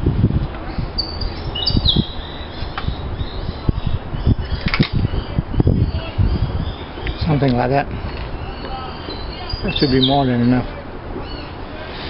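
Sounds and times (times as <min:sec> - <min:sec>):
bird chirping: 0:00.7 - 0:12.0.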